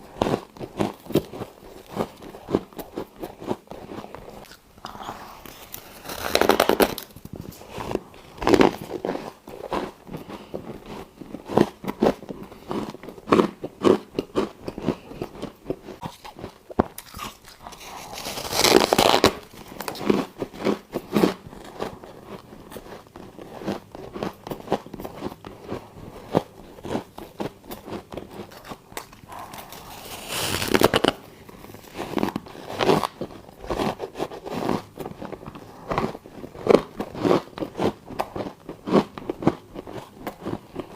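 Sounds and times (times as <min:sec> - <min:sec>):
biting and chewing ice: 0:00.0 - 0:40.9.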